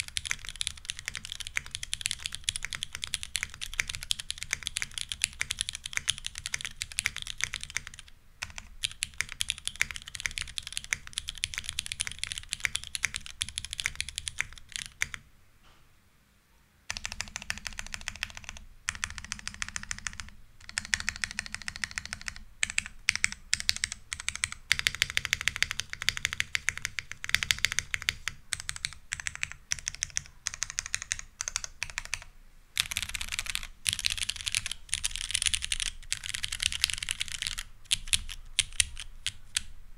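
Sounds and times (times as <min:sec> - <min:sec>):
fast mechanical keyboard typing: 0:00.0 - 0:15.2, 0:16.9 - 0:39.7.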